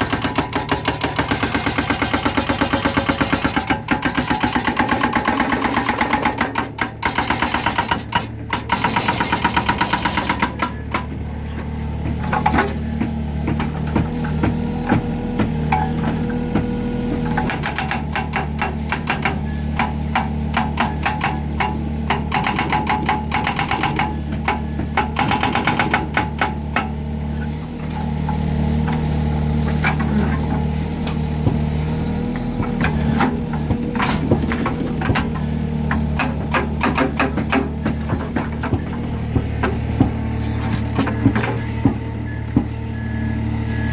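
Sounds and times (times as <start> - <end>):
hydraulic breaker hammering concrete: 0.0 - 42.8
excavator engine running: 0.0 - 43.9.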